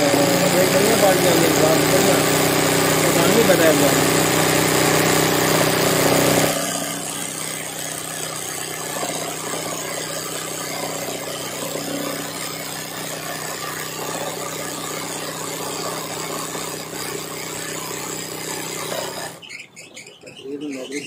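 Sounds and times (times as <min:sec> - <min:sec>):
sewing machine motor running: 0:00.0 - 0:19.6.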